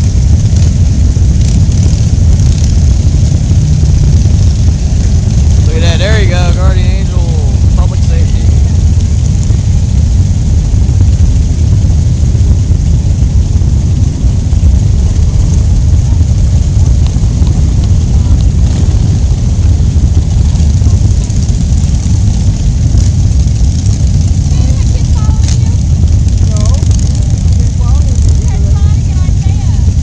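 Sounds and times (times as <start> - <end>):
motorcycles rumbling: 0.0 - 30.0
wind buffeting microphone: 0.0 - 30.0.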